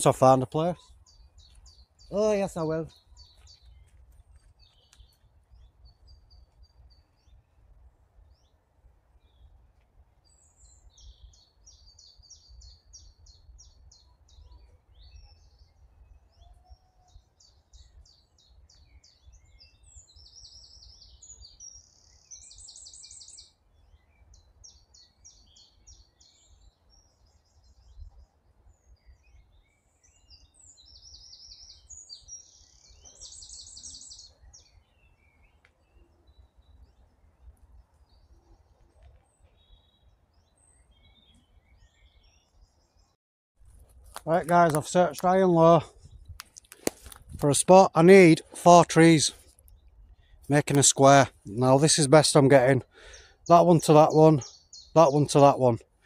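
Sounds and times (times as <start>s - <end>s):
songbirds trilling and chirping: 0.0s - 56.0s.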